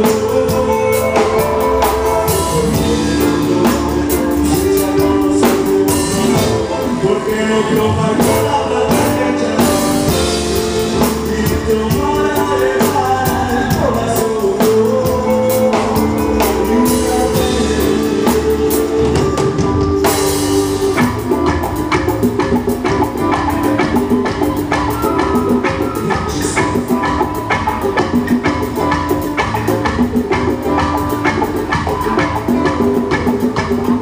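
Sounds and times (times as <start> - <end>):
person singing: 0.0 - 31.2
drum kit: 0.0 - 34.0
electric guitars: 0.0 - 34.0
keyboard: 0.0 - 34.0.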